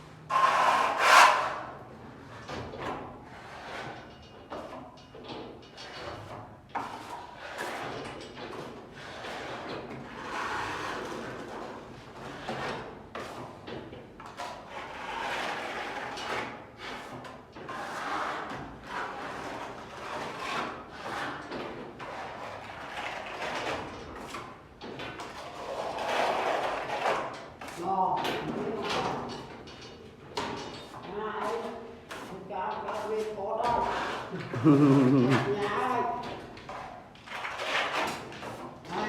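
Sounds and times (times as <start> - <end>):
tool scraping across wall: 0.1 - 39.0.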